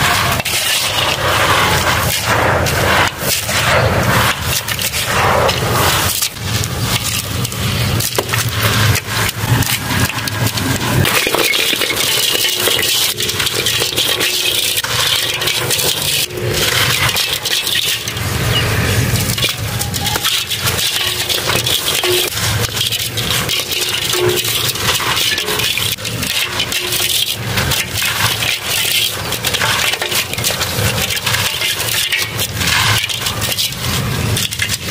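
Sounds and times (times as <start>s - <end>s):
grit falling into metal tub: 0.0s - 34.9s.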